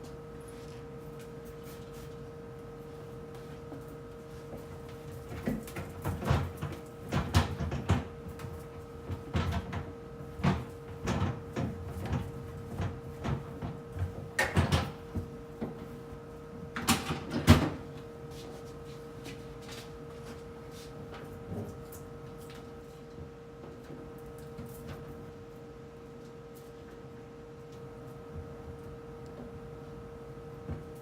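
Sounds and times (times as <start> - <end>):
refrigerator hum: 0.0 - 31.0.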